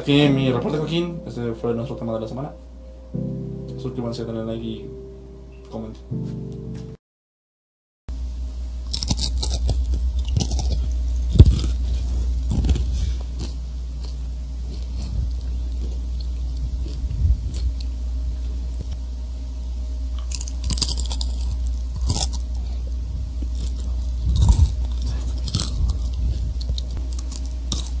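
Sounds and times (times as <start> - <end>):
steady low hum: 0.0 - 7.0, 8.1 - 28.0.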